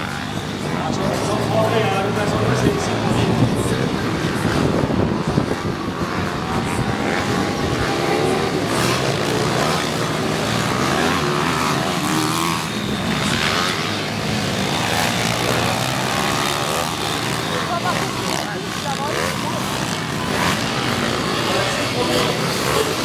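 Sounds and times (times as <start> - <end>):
pit bike engines revving: 0.0 - 23.0.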